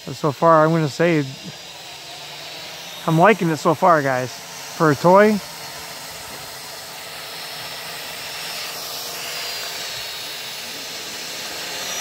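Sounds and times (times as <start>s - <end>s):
drone propellers whirring: 0.0s - 12.0s
high motor whine: 0.0s - 12.0s.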